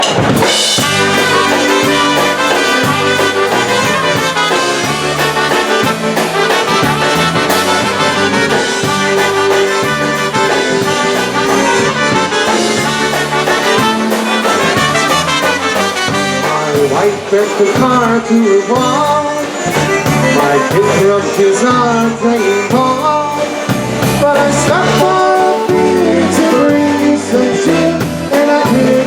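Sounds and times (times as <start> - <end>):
brass band playing folk dance: 0.0 - 29.0
rhythmic bass line: 0.0 - 29.0.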